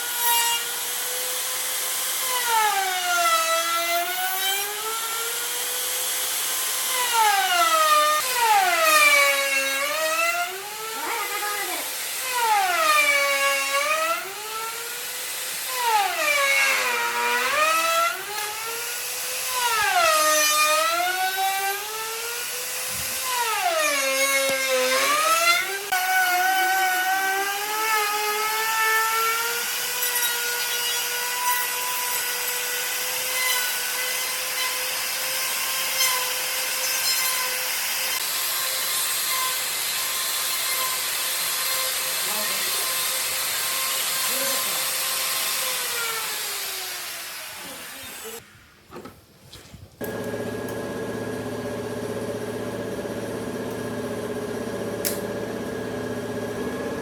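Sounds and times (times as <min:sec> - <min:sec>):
power tool motor cutting wood: 0:00.0 - 0:48.4, 0:50.0 - 0:57.0.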